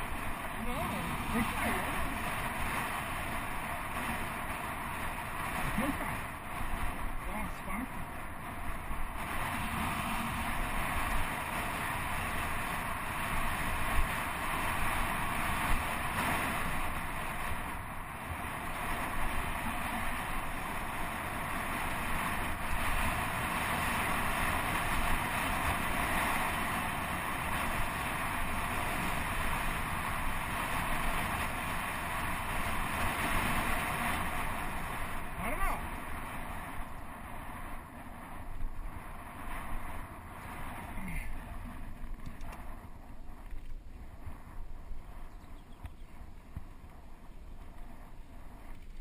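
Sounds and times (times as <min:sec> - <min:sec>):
bike rattling over dirt road: 0:00.0 - 0:49.0
wind noise on microphone: 0:00.0 - 0:49.0.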